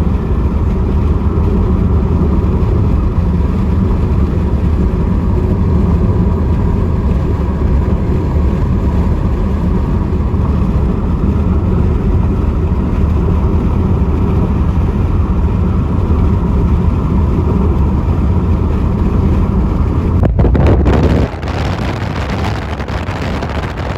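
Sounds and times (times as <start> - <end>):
rain downpour: 0.0 - 20.3
wind buffeting the microphone: 0.0 - 23.9.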